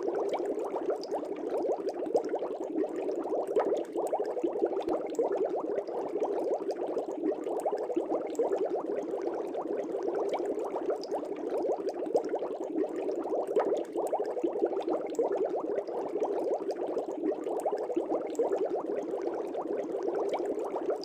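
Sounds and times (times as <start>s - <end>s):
air bubbles in water: 0.0s - 21.0s.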